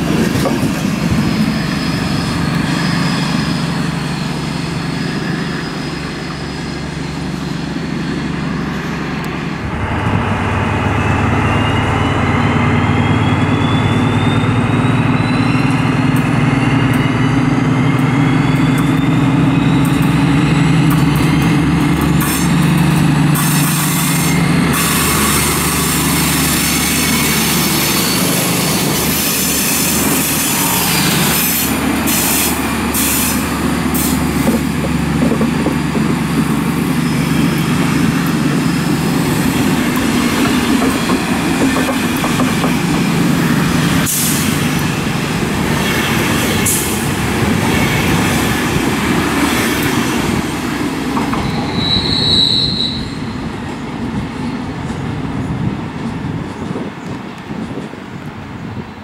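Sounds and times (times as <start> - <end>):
diesel locomotive engines droning: 0.0 - 59.0
passenger coaches rolling past: 0.0 - 59.0
rising locomotive whine: 0.0 - 59.0.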